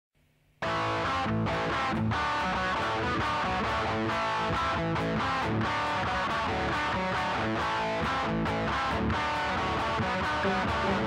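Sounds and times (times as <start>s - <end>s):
guitar-led soundtrack music: 0.6s - 11.0s.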